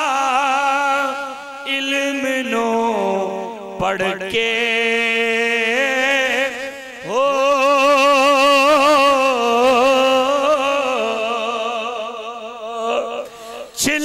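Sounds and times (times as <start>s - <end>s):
man singing a long note: 0.0s - 14.0s.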